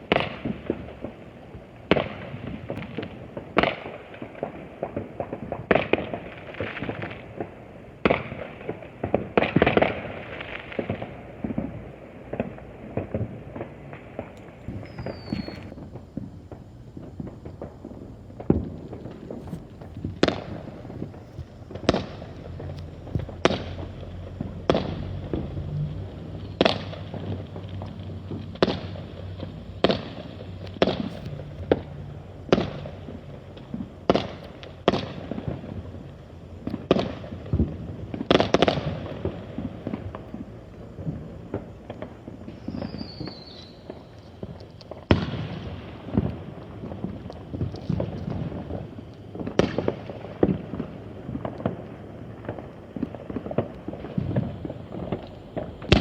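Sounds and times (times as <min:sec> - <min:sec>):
distant fireworks bangs: 0:00.0 - 0:56.0
firework falling whistle: 0:08.0 - 0:56.0.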